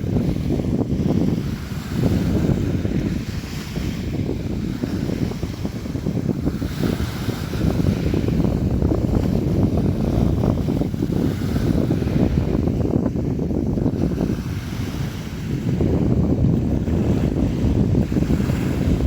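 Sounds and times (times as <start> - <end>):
sea waves washing: 0.0 - 19.0.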